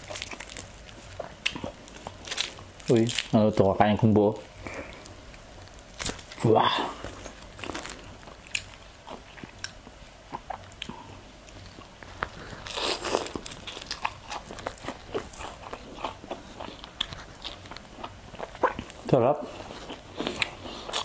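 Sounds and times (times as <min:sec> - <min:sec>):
crunching and chewing crispy food: 0:00.0 - 0:21.0.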